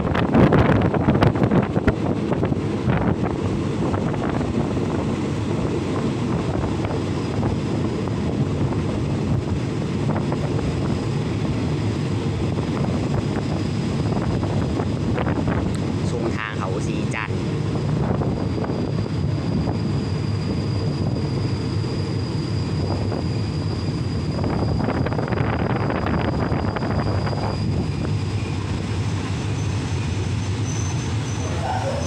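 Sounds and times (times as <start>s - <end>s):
wind buffeting microphone: 0.0s - 16.4s, 17.3s - 30.3s
train carriage running on rails: 0.0s - 32.0s.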